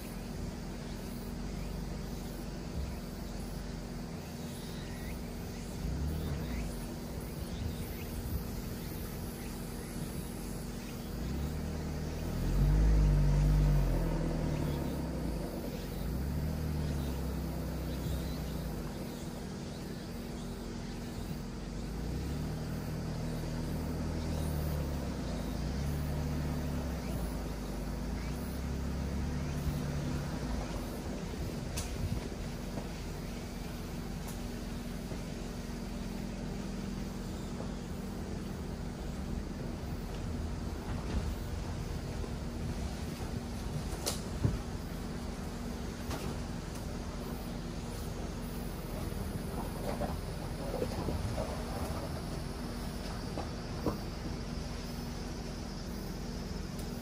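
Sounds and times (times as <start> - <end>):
diesel engine pulling: 0.0 - 57.0
road noise rumble: 0.0 - 57.0.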